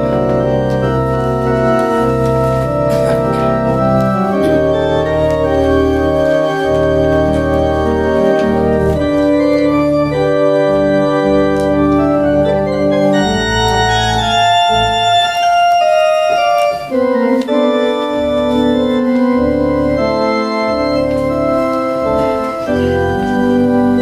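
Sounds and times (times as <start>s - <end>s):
organ playing sustained chords: 0.0s - 24.0s.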